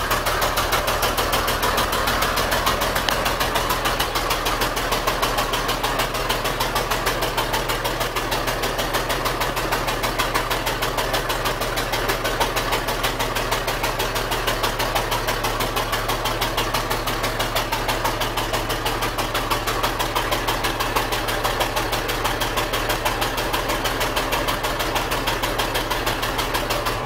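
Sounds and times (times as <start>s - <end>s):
fire engine motor running steadily: 0.0s - 27.0s.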